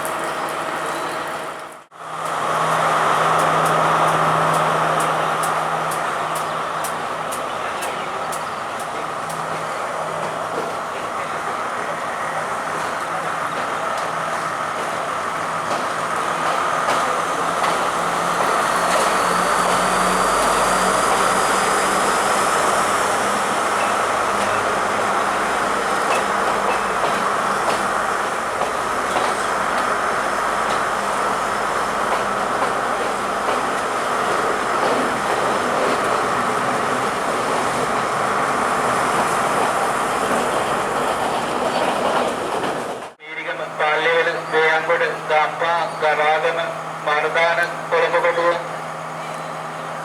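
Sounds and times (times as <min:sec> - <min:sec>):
diesel train rumbling: 0:00.0 - 0:50.0.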